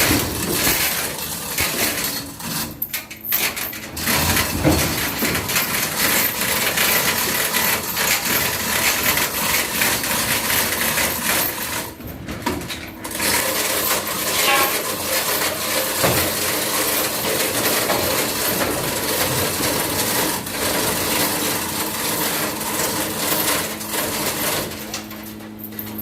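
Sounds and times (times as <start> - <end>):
cutting machine metallic rattling: 0.0 - 12.0, 12.6 - 26.0.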